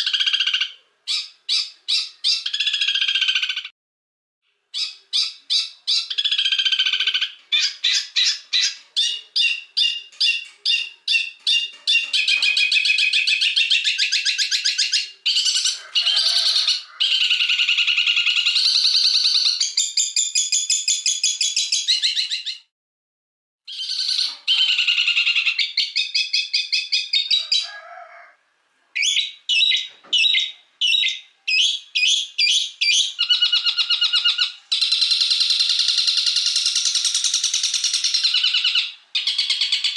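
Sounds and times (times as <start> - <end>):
songbirds chirping and trilling: 0.0 - 3.7, 4.5 - 22.7, 23.7 - 39.9.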